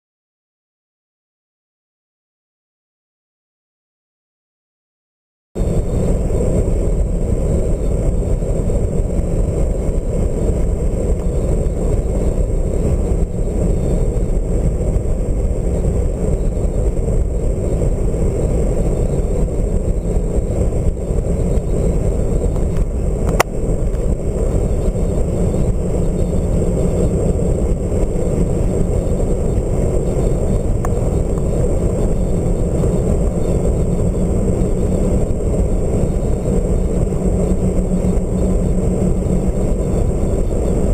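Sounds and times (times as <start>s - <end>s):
car road and wind noise: 5.6s - 40.9s.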